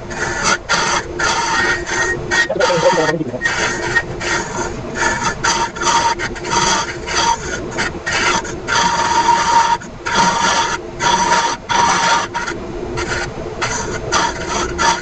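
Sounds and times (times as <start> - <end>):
lathe tool scraping wood: 0.0 - 15.0.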